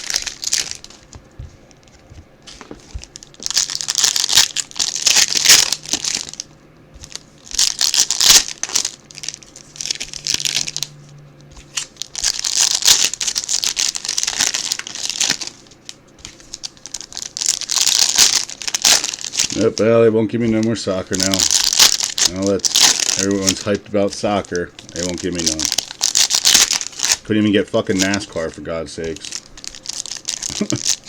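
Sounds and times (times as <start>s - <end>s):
plastic wrappers crinkling and tearing: 0.0s - 31.0s.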